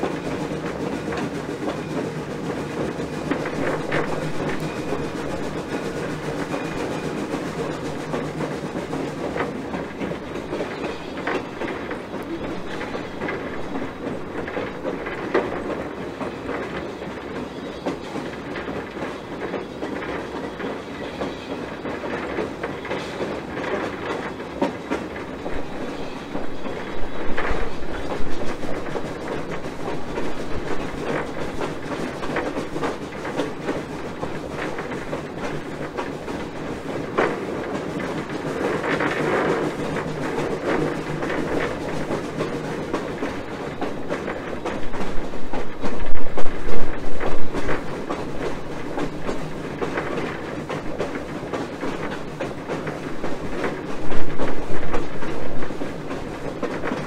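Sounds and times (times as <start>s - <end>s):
clicks and clanks over rail joints: 0.0s - 57.0s
locomotive wheels rumbling: 0.0s - 57.0s.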